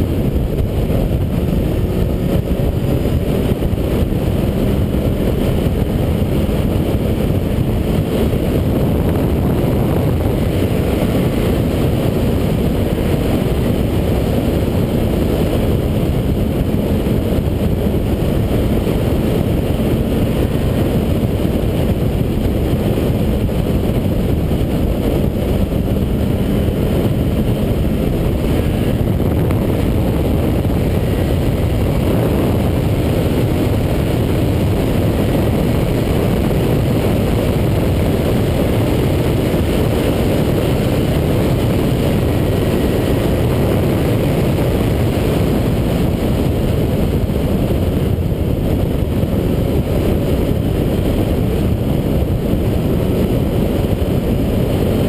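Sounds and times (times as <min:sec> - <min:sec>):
motorcycle engine cruising: 0:00.0 - 0:55.0
road noise: 0:00.0 - 0:55.0
wind rush: 0:00.0 - 0:55.0.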